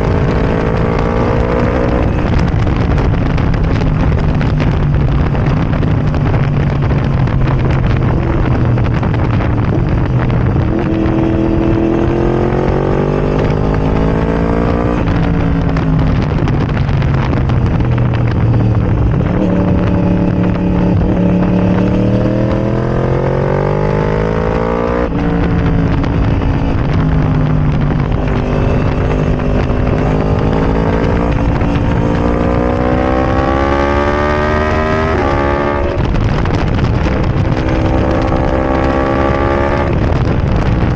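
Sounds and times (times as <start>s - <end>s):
motorcycle engine revving hard: 0.0s - 40.9s.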